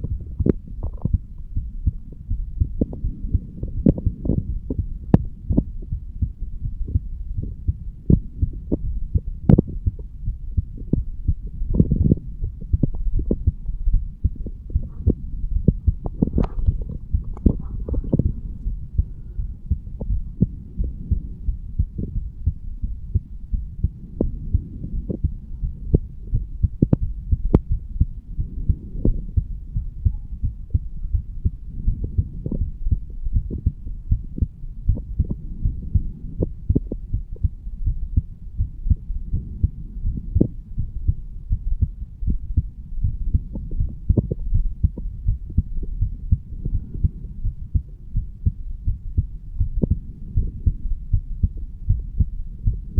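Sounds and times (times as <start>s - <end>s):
heartbeat thuds: 0.0s - 52.9s.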